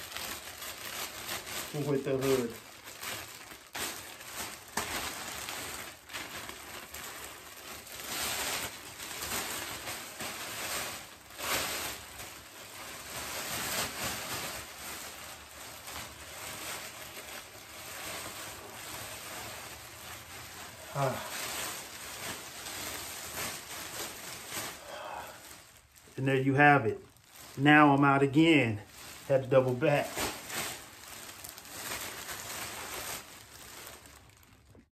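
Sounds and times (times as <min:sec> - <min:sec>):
plastic rain poncho crinkling: 0:00.0 - 0:34.9.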